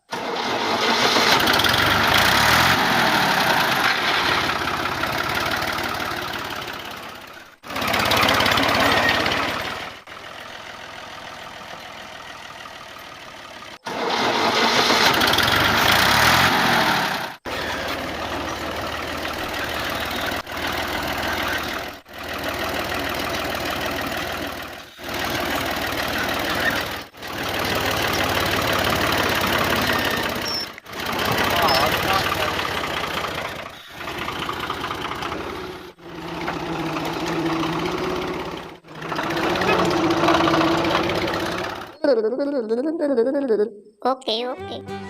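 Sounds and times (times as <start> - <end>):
small engine running: 0.0 - 42.0.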